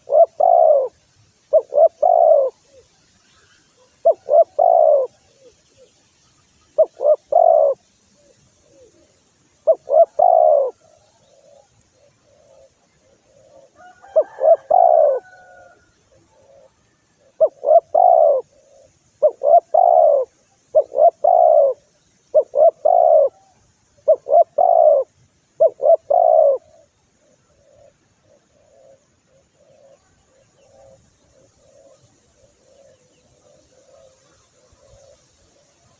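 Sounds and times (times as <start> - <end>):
dove cooing loudly: 0.0 - 2.9, 3.8 - 5.9, 6.8 - 35.3
faint dove cooing: 0.0 - 6.0, 6.6 - 35.9.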